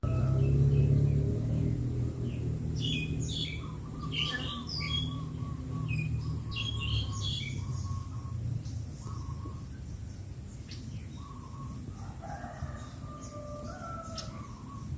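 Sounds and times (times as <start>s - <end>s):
birds chirping and calling: 0.0s - 14.9s.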